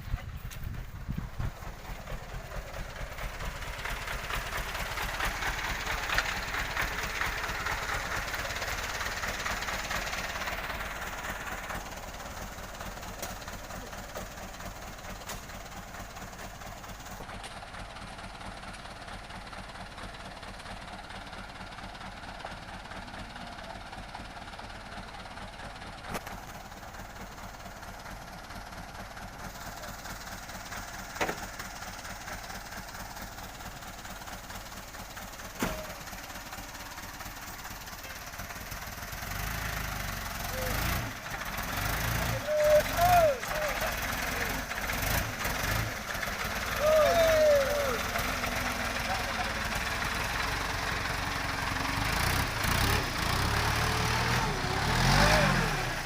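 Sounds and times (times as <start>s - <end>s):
truck engine running at low revs: 0.0s - 56.0s.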